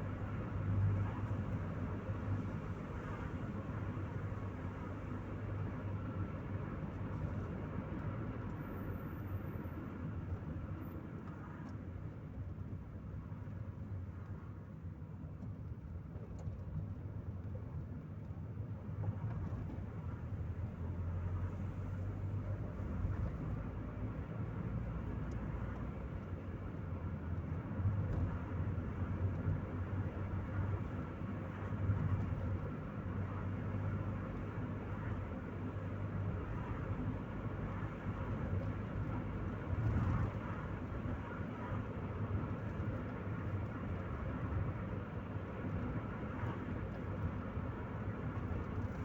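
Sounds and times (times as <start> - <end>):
car engine hum: 0.0 - 49.0
road noise inside car: 0.0 - 49.0.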